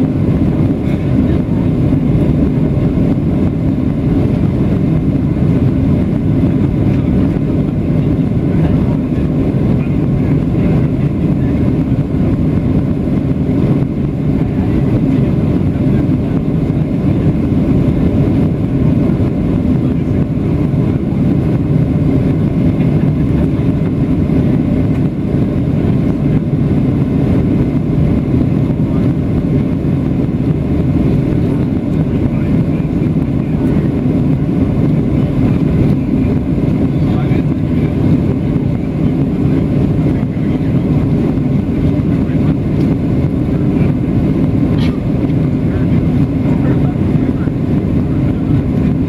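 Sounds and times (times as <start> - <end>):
airliner cabin engine rumble: 0.0 - 49.0.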